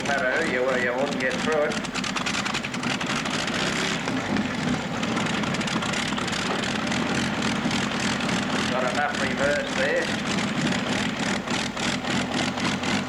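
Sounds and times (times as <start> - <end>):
tractor engine at high revs: 0.0 - 13.0.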